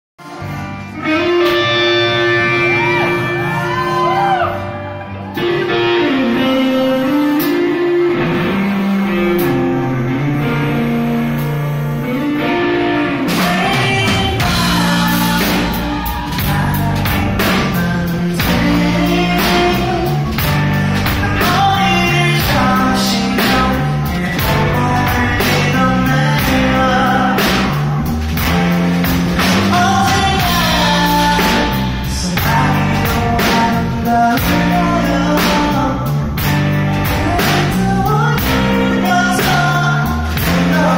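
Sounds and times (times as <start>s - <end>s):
drums: 0.2s - 40.9s
live rock band: 0.2s - 40.9s
man singing: 5.4s - 28.2s, 29.4s - 40.9s.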